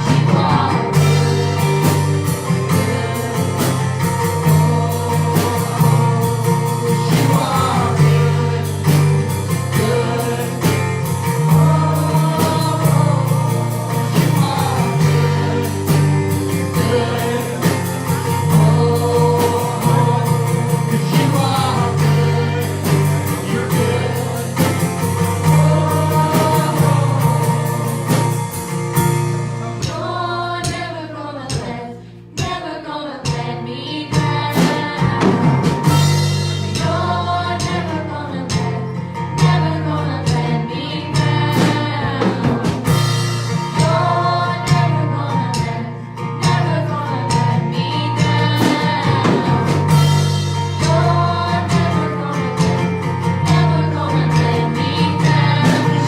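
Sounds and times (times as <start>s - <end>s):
voices singing: 0.0s - 56.0s
worship band playing gospel song: 0.0s - 56.0s.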